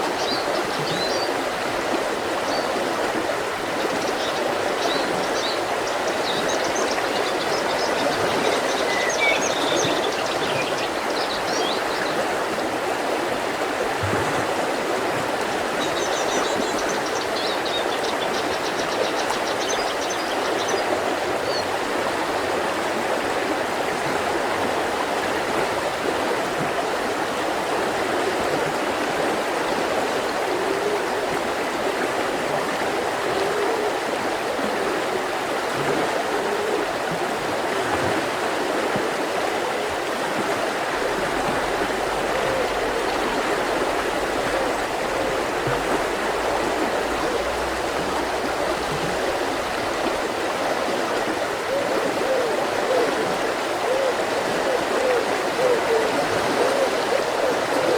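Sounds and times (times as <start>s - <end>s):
river flowing over rocks: 0.0s - 57.9s.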